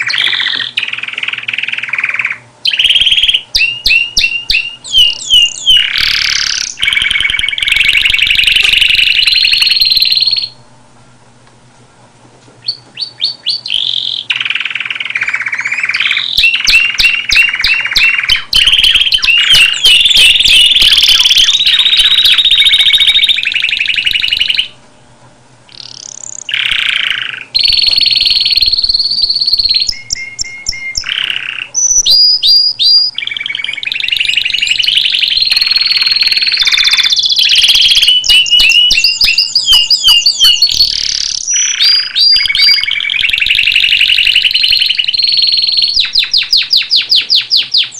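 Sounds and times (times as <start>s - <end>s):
canary singing: 0.0s - 10.7s, 12.6s - 24.8s, 25.7s - 47.9s.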